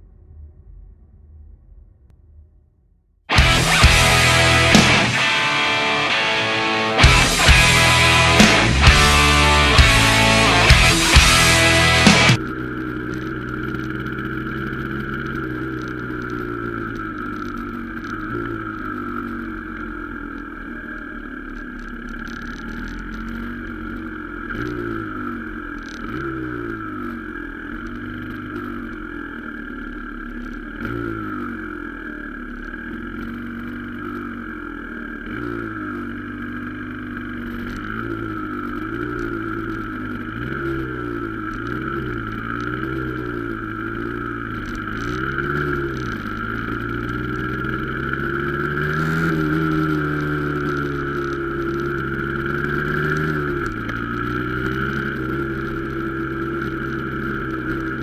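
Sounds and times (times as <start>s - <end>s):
high whine: 0.0s - 58.0s
dirt bike engine revving: 3.3s - 58.0s.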